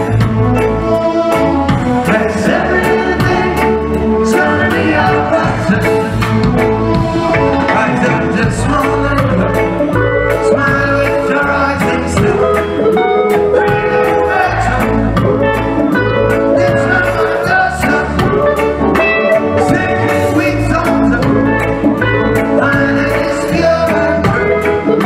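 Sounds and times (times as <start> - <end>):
drum kit: 0.0 - 25.0
electric bass: 0.0 - 25.0
person singing: 0.0 - 25.0.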